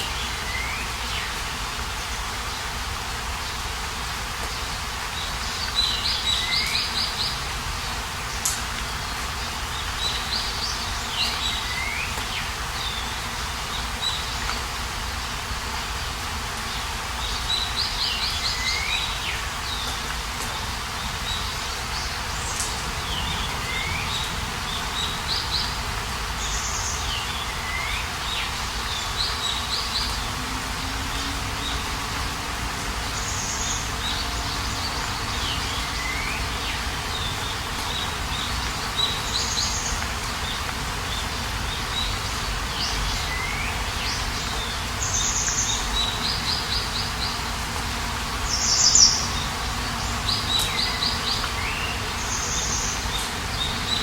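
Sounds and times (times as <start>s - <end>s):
songbird singing: 0.0s - 2.7s, 4.5s - 16.0s, 16.6s - 20.2s, 20.9s - 54.0s
outdoor background hiss: 0.0s - 54.0s.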